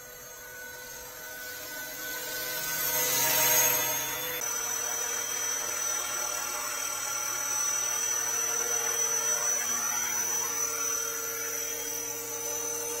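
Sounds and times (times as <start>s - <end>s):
model helicopter motor whine: 0.0s - 13.0s.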